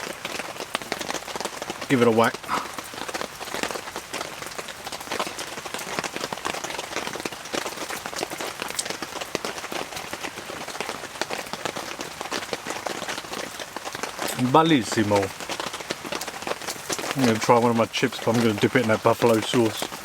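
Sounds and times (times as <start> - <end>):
heavy rain on tent fabric: 0.0 - 20.0.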